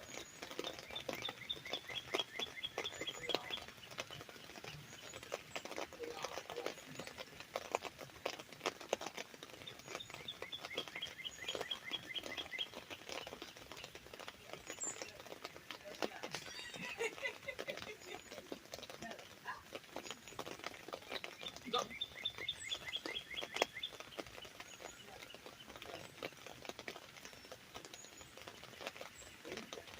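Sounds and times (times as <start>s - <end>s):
rain tapping on umbrella: 0.0s - 29.9s
songbird singing: 0.0s - 29.9s.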